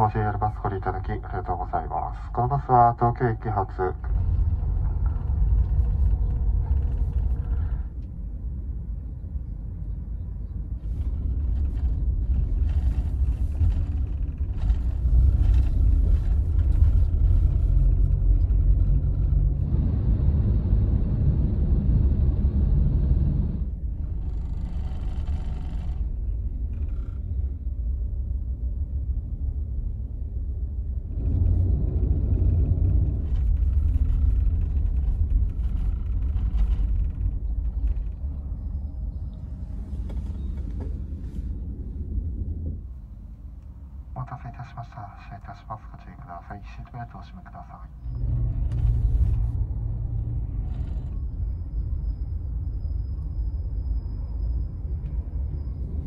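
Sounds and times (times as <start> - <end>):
bus cabin rumble: 0.0 - 56.0.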